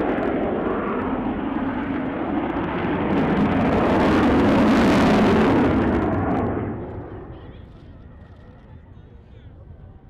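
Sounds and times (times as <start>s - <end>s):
jet aircraft roaring overhead: 0.0s - 10.0s.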